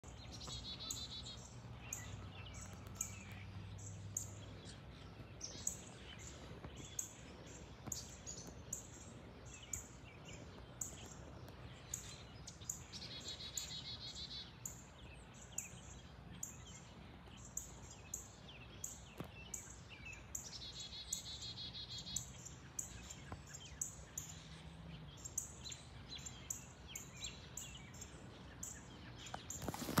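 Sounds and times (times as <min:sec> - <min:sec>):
small birds chirping: 0:00.0 - 0:30.0
songbird trill: 0:00.0 - 0:30.0.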